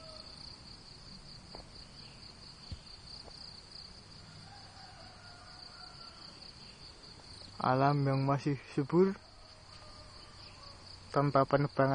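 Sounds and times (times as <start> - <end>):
high-pitched insect trill: 0.0 - 11.9.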